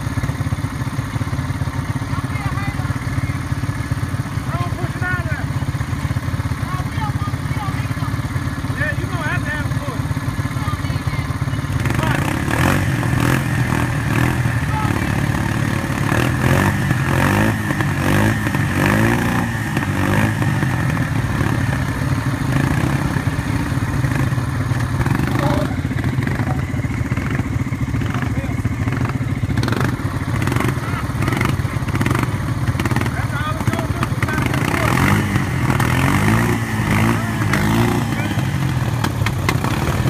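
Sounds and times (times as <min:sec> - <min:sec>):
atv engine running under load: 0:00.0 - 0:40.0.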